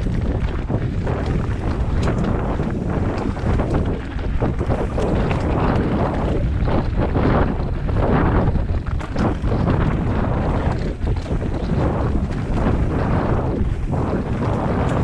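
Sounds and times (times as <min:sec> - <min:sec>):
bike rumbling over stony ground: 0:00.0 - 0:15.0
small knocks and rattles: 0:00.0 - 0:15.0
wind buffeting microphone: 0:00.0 - 0:15.0.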